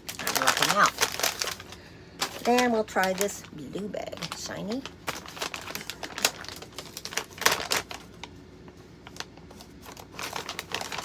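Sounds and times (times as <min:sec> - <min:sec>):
wrapping crinkling and crackling: 0:00.0 - 0:11.0.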